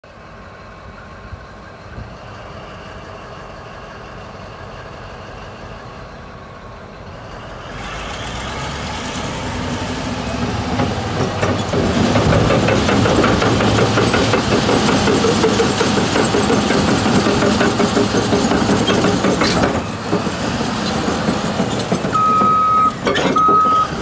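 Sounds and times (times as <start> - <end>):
diesel engine idling and revving: 0.0 - 24.0
rising engine whine: 0.1 - 24.0.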